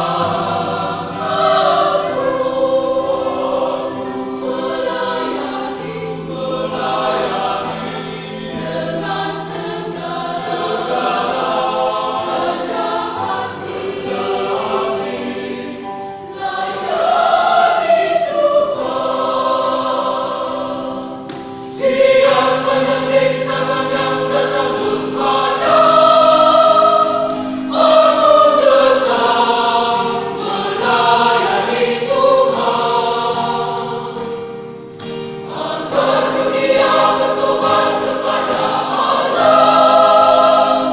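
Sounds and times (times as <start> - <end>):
church choir singing: 0.0 - 40.9.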